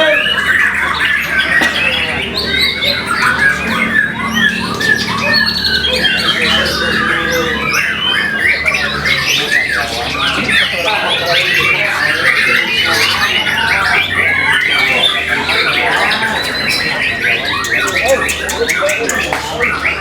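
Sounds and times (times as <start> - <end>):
bird singing whistles and chatter: 0.0 - 20.0.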